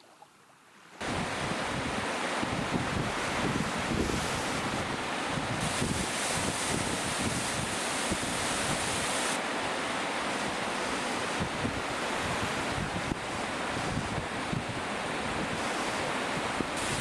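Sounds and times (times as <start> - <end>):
waterfall roaring: 1.0 - 17.0.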